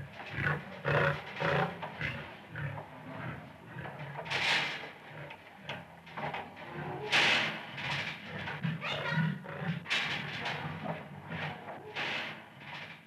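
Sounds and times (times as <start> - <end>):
big cat snarling and growling: 0.0 - 12.7.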